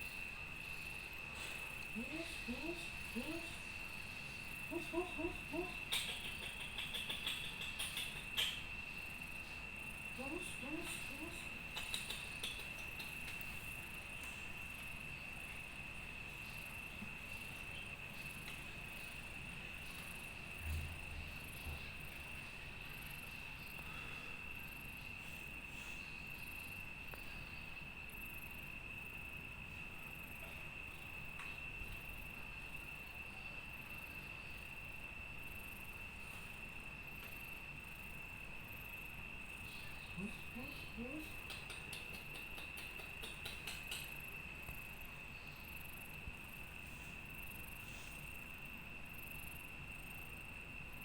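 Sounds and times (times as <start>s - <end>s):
crickets trilling: 0.0s - 51.0s
pulsing insect call: 0.0s - 51.0s.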